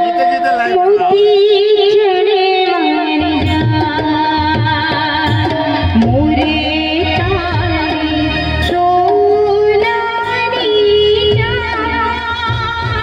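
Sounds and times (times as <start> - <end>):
tabla beats: 0.0 - 13.0
woman singing into microphone: 0.0 - 13.0.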